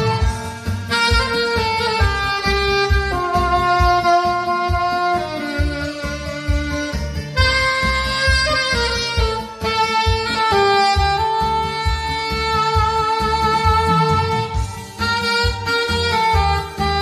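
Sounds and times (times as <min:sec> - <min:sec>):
backing track with steady beat: 0:00.0 - 0:17.0
saxophone slow melody: 0:00.0 - 0:17.0.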